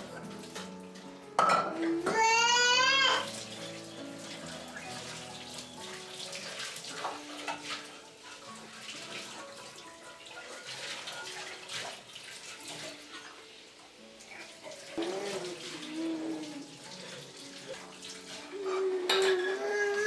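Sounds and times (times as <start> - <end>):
soft background music: 0.0 - 20.0
water running from a tap: 0.0 - 20.0.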